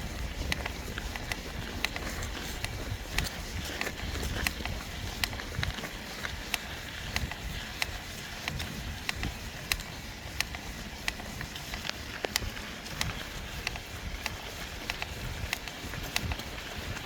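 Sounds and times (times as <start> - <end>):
bike cracking creak: 0.0 - 17.0.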